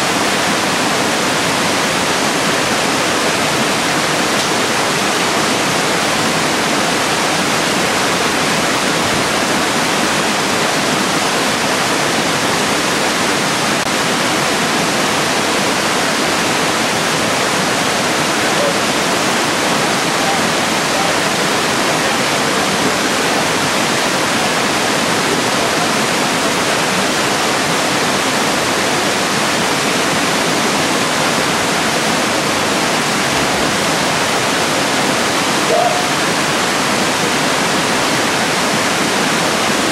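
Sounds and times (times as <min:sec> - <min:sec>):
waterfalls rushing: 0:00.0 - 0:39.9.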